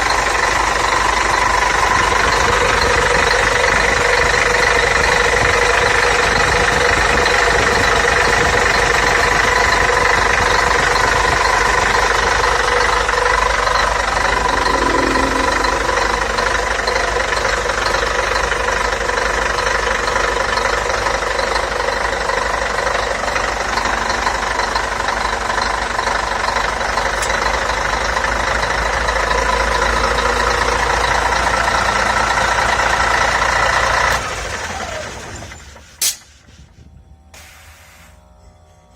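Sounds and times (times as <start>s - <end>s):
diesel bus engine droning: 0.0s - 38.9s.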